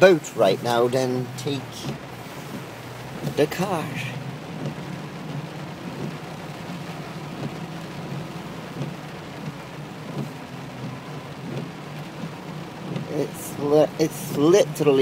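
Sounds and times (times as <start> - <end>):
heavy rain on a car: 0.0 - 15.0
moving car drone: 0.0 - 15.0.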